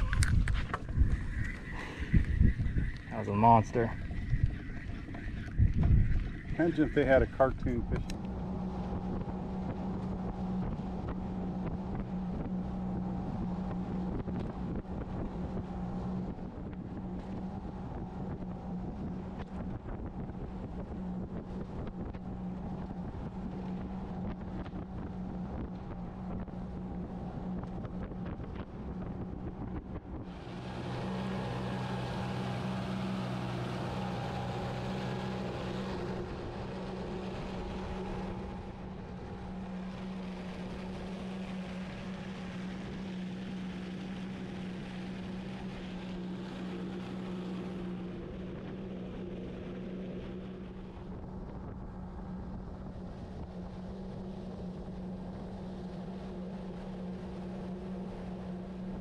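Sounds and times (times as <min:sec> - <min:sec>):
rush of spray and wind: 0:00.0 - 0:04.8, 0:05.5 - 0:59.0
outboard motor drone: 0:00.0 - 0:59.0.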